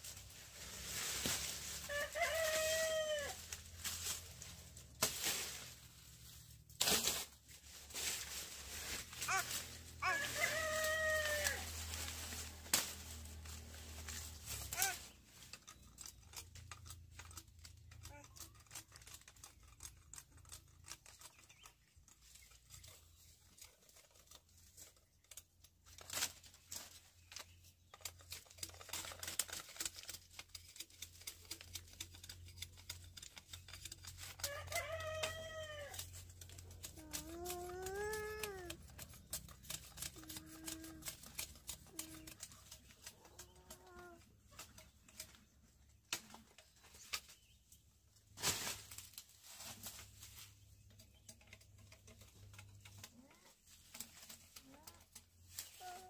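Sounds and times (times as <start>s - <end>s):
rustling: 0.0s - 56.0s.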